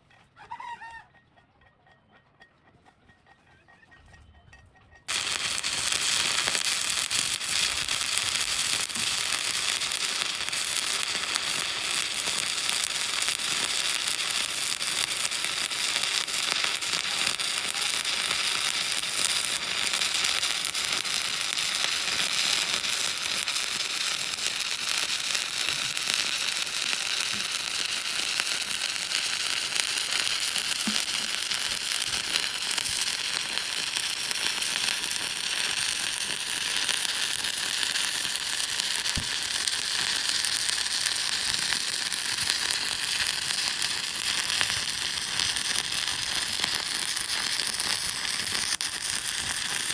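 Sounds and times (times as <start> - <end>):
welding arc crackling and sizzling: 5.1 - 49.9.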